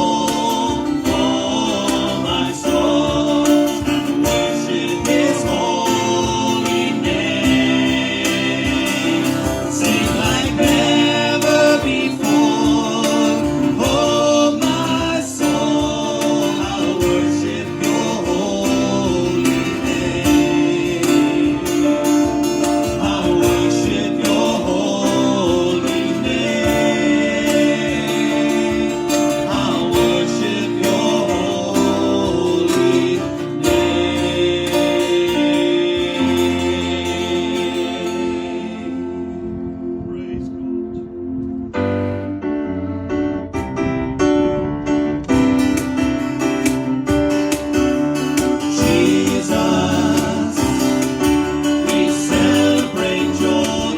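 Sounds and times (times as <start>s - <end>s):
worship song singing: 0.0s - 43.5s, 44.6s - 53.9s
guitar accompaniment: 0.0s - 53.9s.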